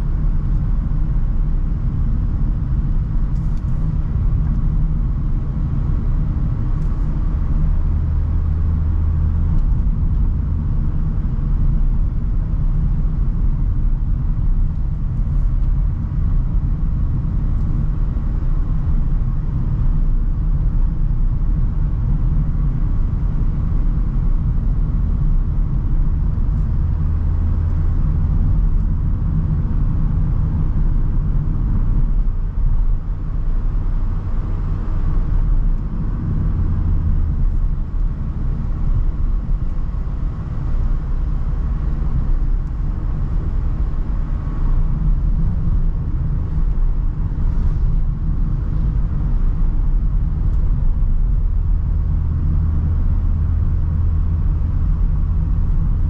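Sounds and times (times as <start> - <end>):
van engine and road noise: 0.0 - 56.0.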